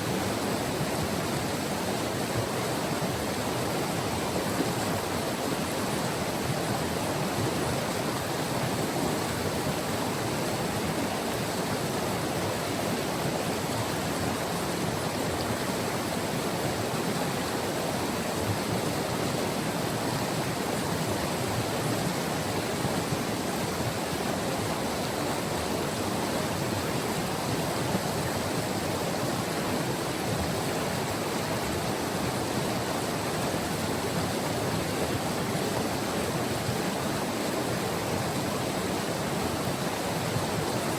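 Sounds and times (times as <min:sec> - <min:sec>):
river rushing over its bed: 0:00.0 - 0:40.9.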